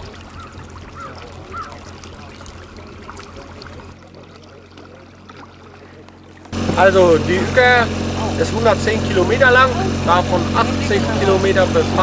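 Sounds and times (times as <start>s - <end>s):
low steady hum: 0.0s - 12.0s
river water trickling: 0.0s - 12.0s.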